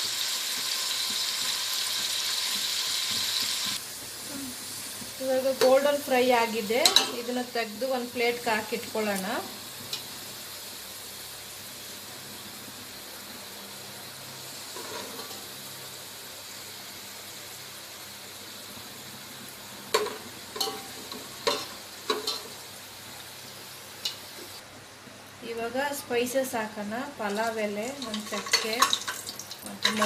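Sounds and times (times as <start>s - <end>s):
onions sizzling in oil: 0.0s - 30.0s.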